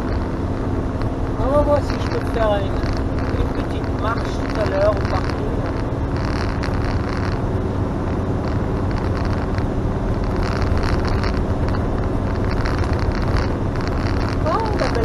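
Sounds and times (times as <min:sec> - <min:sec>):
constant low hum: 0:00.0 - 0:15.0
engine and tyre drone: 0:00.0 - 0:15.0.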